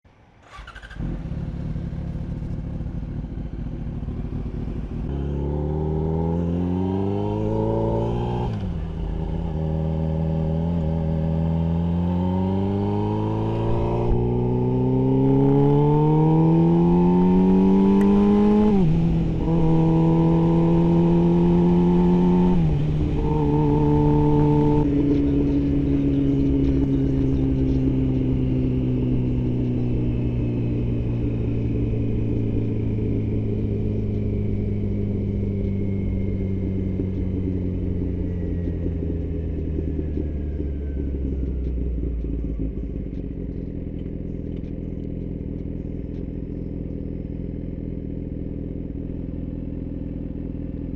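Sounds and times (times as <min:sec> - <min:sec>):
motorcycle engine accelerating: 0:00.2 - 0:50.9.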